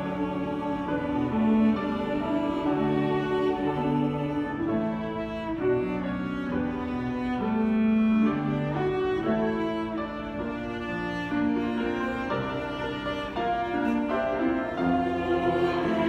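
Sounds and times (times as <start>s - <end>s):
bowed strings playing slowly: 0.0s - 16.0s.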